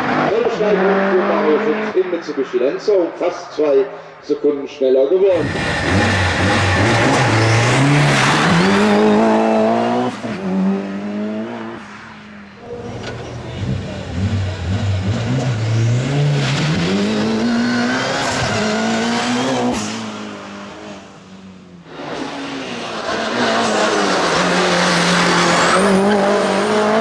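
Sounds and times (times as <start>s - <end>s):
race car accelerating hard: 0.0s - 2.5s, 5.3s - 27.0s.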